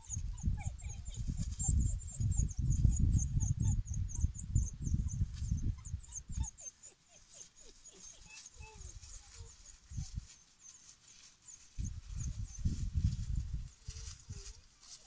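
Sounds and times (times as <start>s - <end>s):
wild dogs squeaking: 0.0s - 12.6s.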